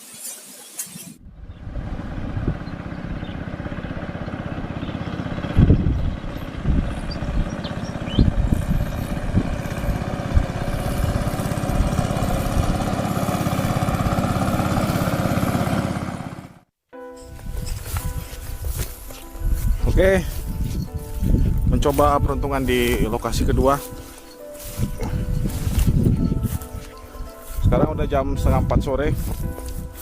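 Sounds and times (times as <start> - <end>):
small motorcycle engine running: 1.4 - 16.7, 17.4 - 30.0.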